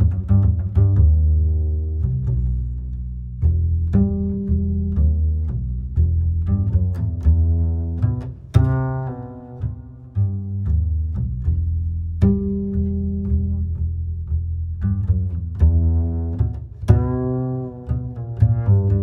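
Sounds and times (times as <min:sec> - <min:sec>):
plucked and bowed low strings: 0:00.0 - 0:19.0.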